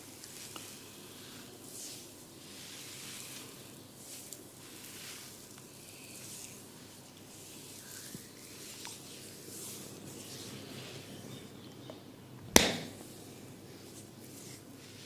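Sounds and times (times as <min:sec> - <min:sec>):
hair and scalp being rubbed: 0:00.0 - 0:11.2, 0:13.0 - 0:15.0.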